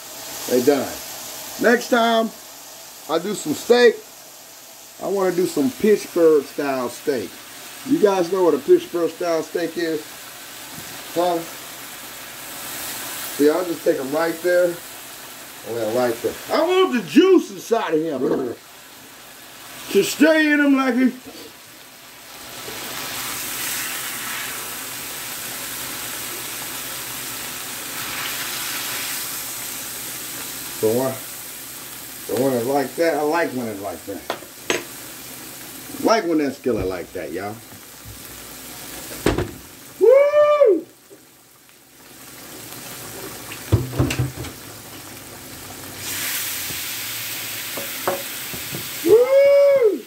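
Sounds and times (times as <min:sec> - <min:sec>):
steaks sizzling in hot grease: 0:00.0 - 0:50.0.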